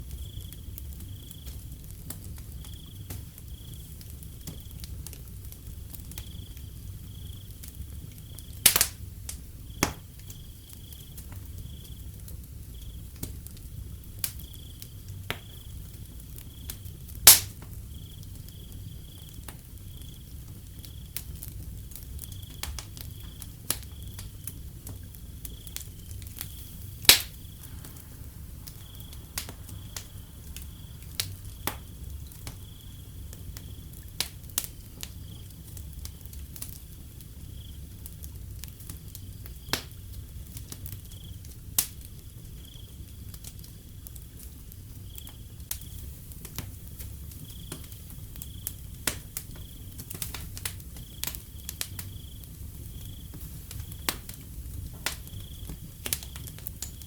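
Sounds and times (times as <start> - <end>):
crickets chirping: 0.0 - 57.0
low fire rumble: 0.0 - 57.0
wood fire crackling and popping: 0.0 - 57.0.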